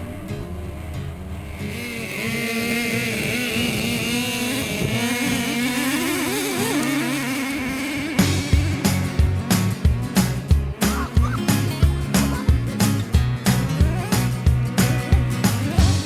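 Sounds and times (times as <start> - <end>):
small rc truck engine revving: 0.0 - 16.0.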